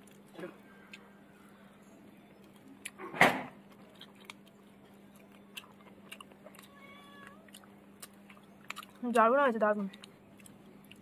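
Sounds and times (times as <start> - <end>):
person chewing food: 0.0 - 1.6, 2.3 - 11.0
faint steady hum: 0.0 - 11.0.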